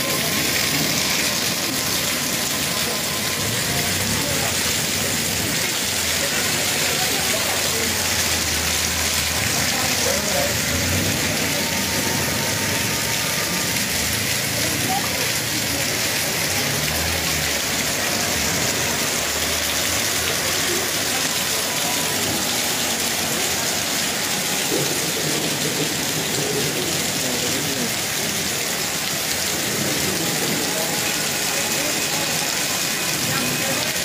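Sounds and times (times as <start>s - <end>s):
hail and rain pouring down: 0.0s - 34.0s.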